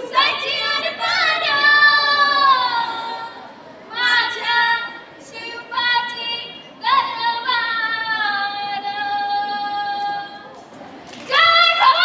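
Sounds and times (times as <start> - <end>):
girls singing into a microphone: 0.0 - 10.6, 11.3 - 12.0.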